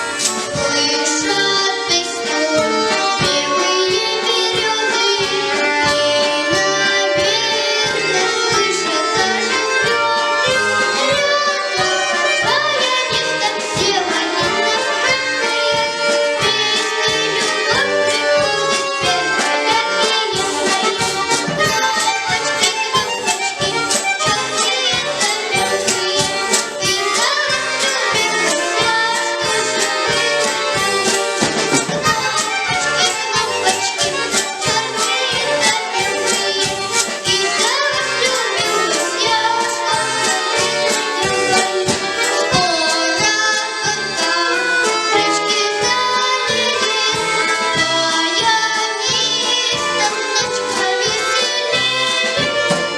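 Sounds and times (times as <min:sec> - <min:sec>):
accordion orchestra playing: 0:00.0 - 0:52.9
percussive beat: 0:00.0 - 0:52.9.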